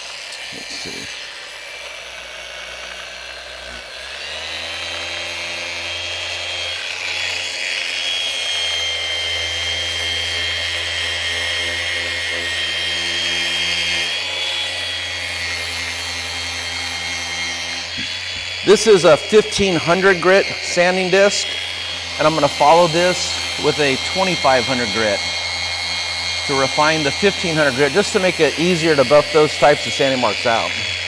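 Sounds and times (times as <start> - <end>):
sander motor whine: 0.0 - 31.0.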